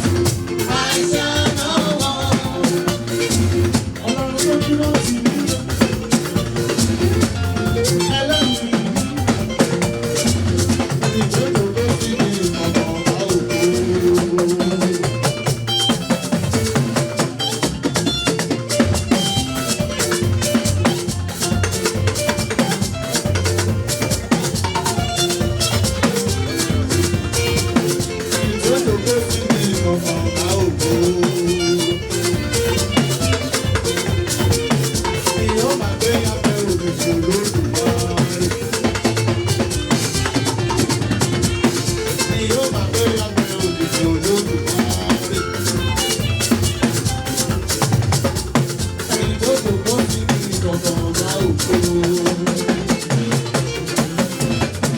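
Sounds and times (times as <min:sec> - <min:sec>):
drums: 0:00.0 - 0:54.9
shaken rattles: 0:00.0 - 0:54.9.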